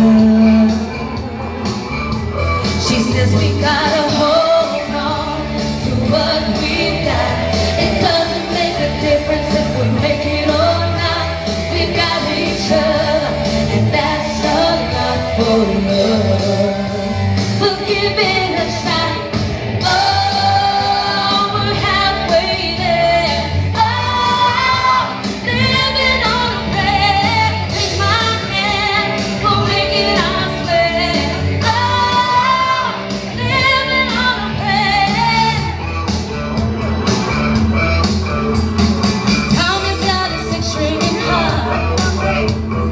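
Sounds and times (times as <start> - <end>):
backing music with steady beat: 0.0 - 42.9
woman singing into a microphone: 2.8 - 35.8, 39.6 - 41.8.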